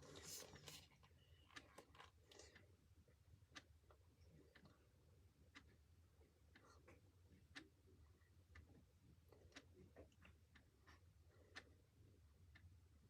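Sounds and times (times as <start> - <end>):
clock ticking faintly: 1.3 - 13.0.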